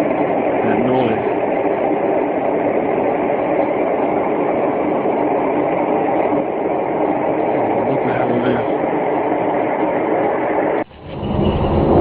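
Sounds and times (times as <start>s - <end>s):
loud rushing drone: 0.0s - 12.0s.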